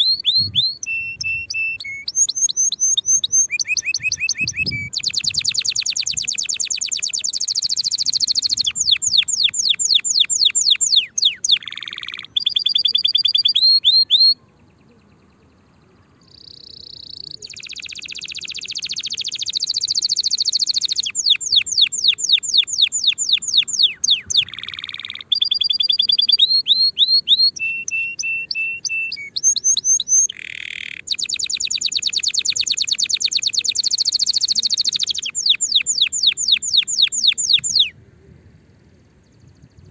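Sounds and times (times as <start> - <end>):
canary singing: 0.0 - 38.0.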